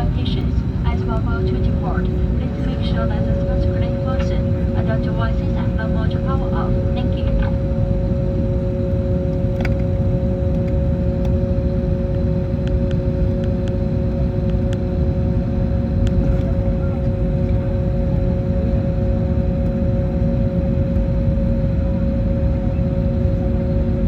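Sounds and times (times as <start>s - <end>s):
airplane cabin rumble and hum: 0.0s - 24.0s.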